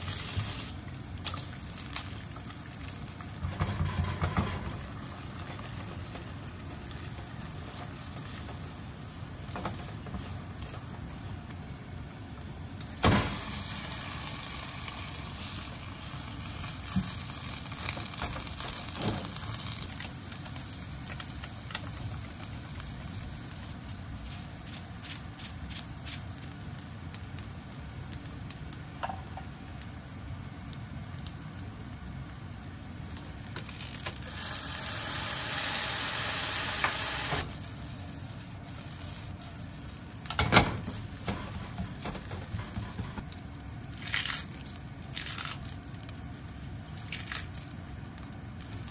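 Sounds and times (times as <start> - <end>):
food sizzling in a frying pan: 0.0 - 48.9.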